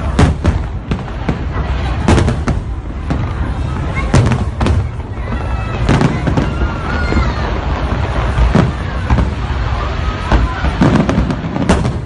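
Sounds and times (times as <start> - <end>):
crowd chatter: 0.0 - 12.0
fireworks bursting in deep bangs: 0.0 - 12.0.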